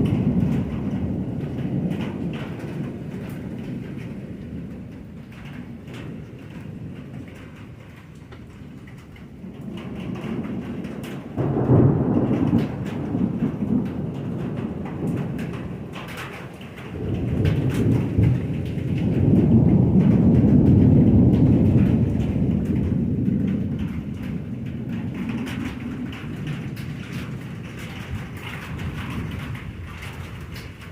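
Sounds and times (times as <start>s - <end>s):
rain falling: 0.0s - 30.9s
thunder rumbling: 0.0s - 30.9s.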